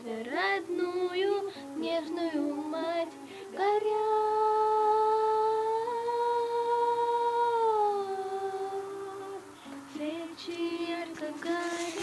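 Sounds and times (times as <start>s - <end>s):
girl singing long note: 0.0s - 12.0s.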